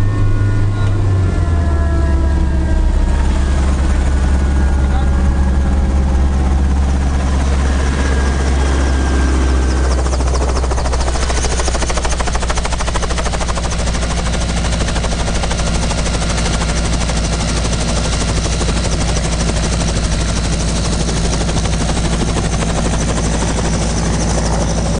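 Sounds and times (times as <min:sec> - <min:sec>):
helicopter engine and rotor: 0:00.0 - 0:24.9.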